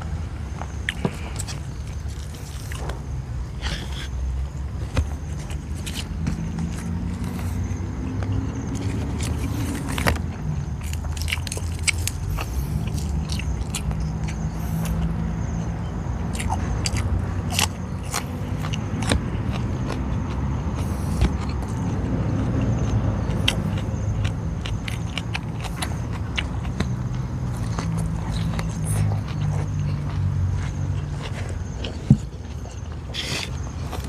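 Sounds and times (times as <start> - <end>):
crunchy chewing of vegetables: 0.0 - 34.0.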